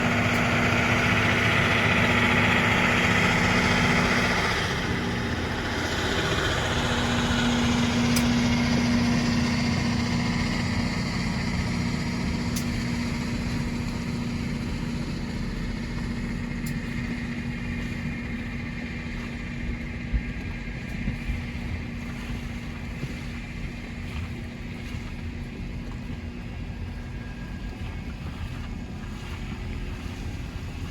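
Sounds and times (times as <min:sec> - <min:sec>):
engines humming: 0:00.0 - 0:30.9.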